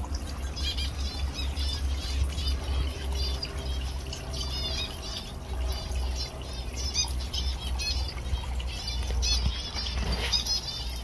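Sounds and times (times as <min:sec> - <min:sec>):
finches calling: 0:00.0 - 0:11.0
waterfall trickling: 0:00.0 - 0:11.0.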